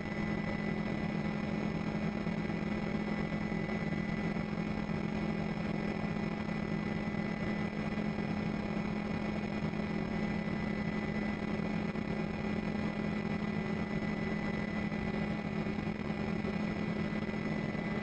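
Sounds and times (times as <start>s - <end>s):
faint high whine: 0.0s - 18.0s
helicopter engine and rotors droning: 0.0s - 18.0s.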